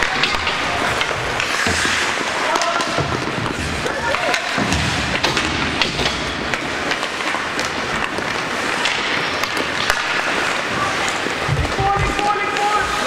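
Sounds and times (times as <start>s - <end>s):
hockey sticks and puck clicking: 0.0s - 13.0s
skate blades scraping ice: 0.0s - 13.0s.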